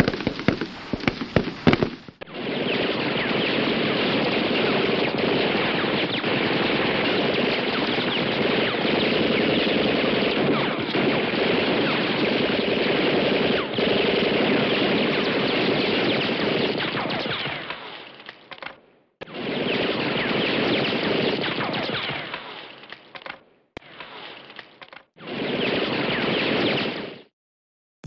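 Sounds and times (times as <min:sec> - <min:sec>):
dense continuous gunfire: 0:00.0 - 0:27.3.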